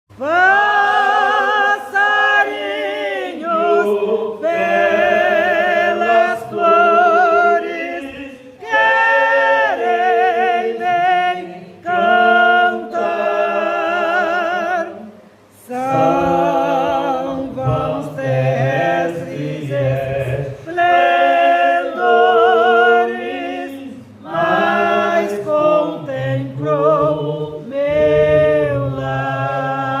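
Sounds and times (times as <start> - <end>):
person singing unaccompanied: 0.1 - 30.0.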